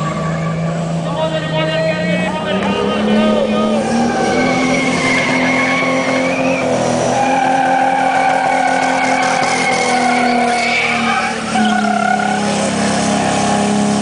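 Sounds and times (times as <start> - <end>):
tyres squealing: 0.0 - 13.8
engine at high revs: 0.0 - 14.0.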